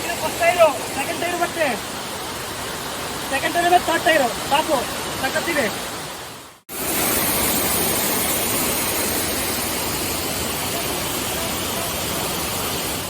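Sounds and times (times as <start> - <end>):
water falling over rocks: 0.0 - 13.0.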